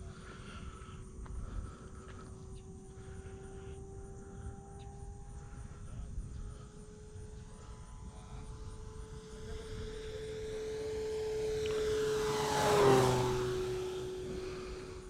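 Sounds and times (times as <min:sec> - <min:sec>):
model plane motor and propeller whining: 0:00.0 - 0:15.0.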